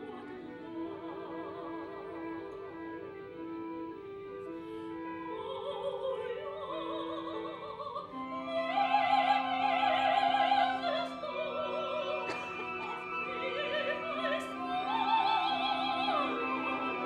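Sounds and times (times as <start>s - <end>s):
woman singing opera with vibrato: 0.0s - 17.0s.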